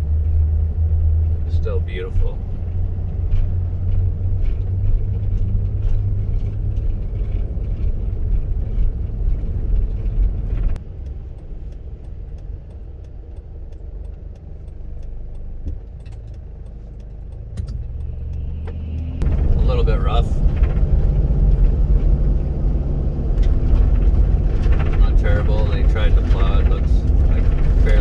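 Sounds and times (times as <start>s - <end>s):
road and engine rumble: 0.0s - 28.0s
faint clicks and rattles: 2.6s - 21.8s, 23.3s - 28.0s.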